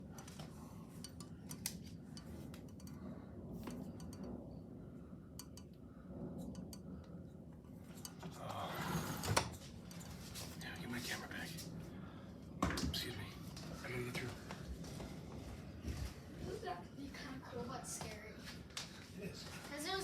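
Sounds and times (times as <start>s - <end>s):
low rumble: 0.0s - 18.2s.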